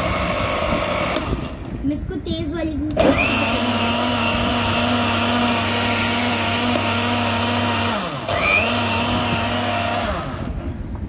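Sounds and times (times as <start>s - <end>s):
electric blender running: 0.0s - 1.7s, 3.0s - 10.6s.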